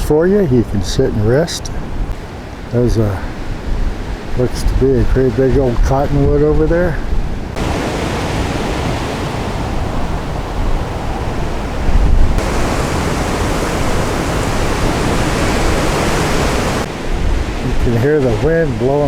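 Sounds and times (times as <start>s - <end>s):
wind buffeting microphone: 0.0s - 19.0s
wind rustling leaves: 0.1s - 19.0s.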